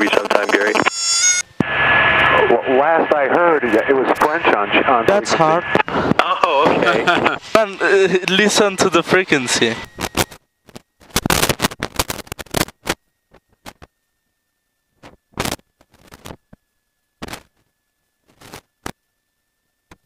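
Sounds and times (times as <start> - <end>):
static-like rustling bursts: 0.0 - 1.6, 2.3 - 14.0, 15.0 - 19.1.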